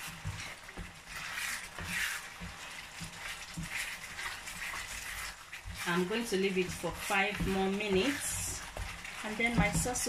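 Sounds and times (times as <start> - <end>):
spatula stirring thick sauce: 0.0 - 10.0.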